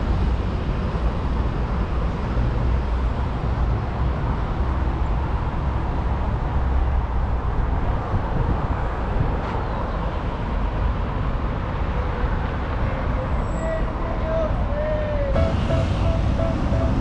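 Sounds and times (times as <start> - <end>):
road traffic passing cars: 0.0 - 17.0.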